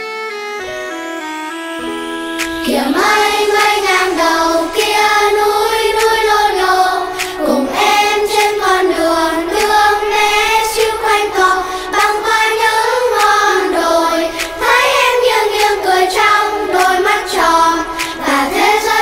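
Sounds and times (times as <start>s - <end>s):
backing music: 0.0s - 19.0s
children's choir singing: 1.8s - 19.0s.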